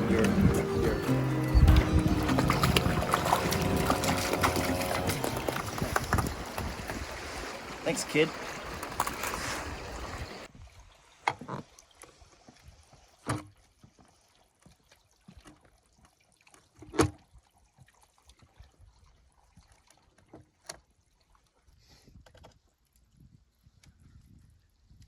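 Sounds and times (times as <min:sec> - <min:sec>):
water splashing and trickling: 0:00.0 - 0:21.8.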